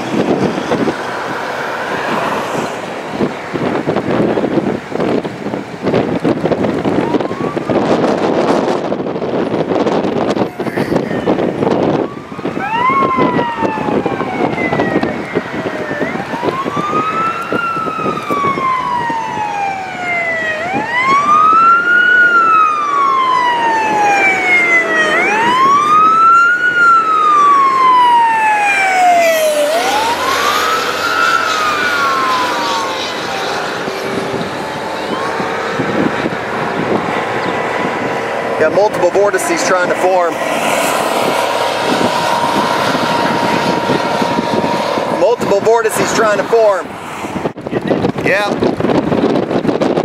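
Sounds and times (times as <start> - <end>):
siren wailing: 0.0 - 47.5
wind buffeting microphone: 0.0 - 50.0.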